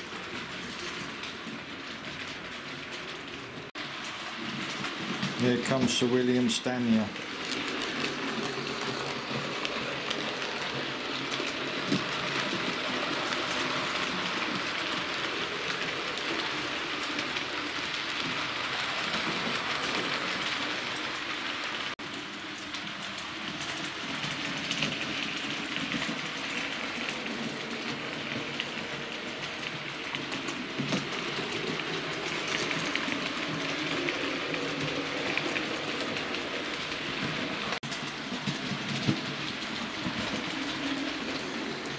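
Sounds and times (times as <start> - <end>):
model train running on track: 0.0 - 41.9.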